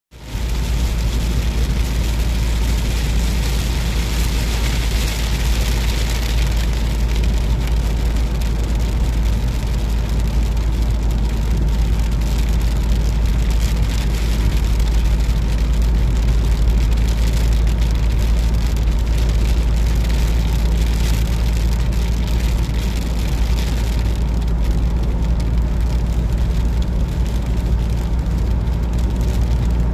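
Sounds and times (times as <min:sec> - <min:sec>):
engine and road rumble: 0:00.1 - 0:29.9
rain hitting windshield: 0:00.1 - 0:29.9.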